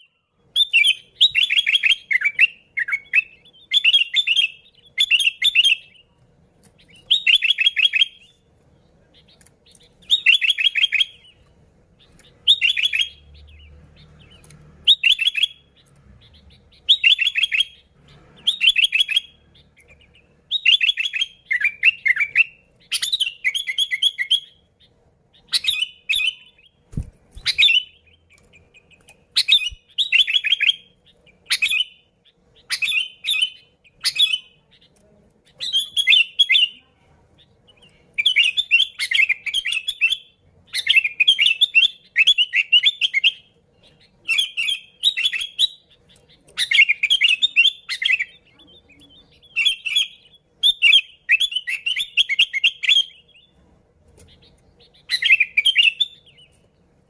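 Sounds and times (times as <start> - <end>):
bulbul singing: 0.0 - 57.0.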